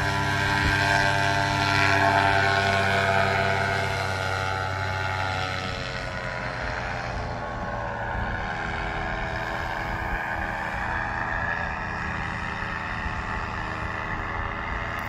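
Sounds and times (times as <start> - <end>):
paramotor engine buzzing overhead: 0.0 - 15.0.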